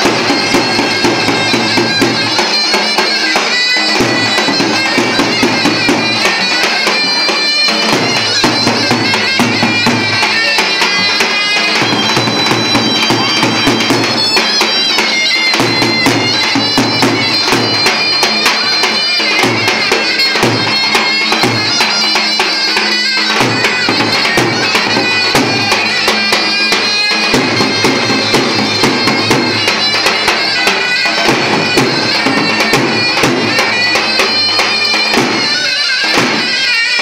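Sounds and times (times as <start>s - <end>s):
reedy folk dance melody: 0.0s - 37.0s.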